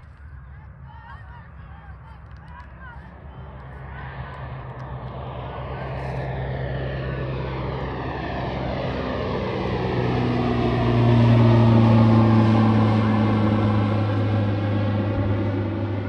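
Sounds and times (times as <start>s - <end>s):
turboprop plane climbing: 0.0s - 16.0s.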